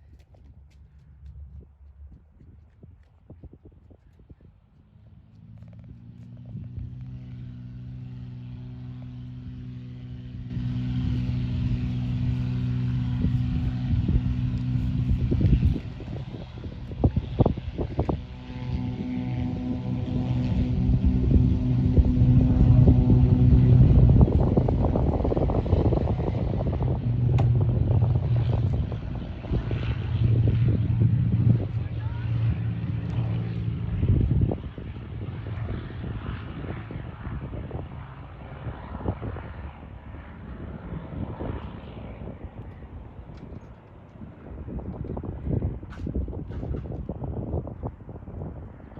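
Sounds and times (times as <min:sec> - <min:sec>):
aircraft engine and propeller: 0:00.0 - 0:48.9
wind buffeting microphone: 0:00.0 - 0:48.9.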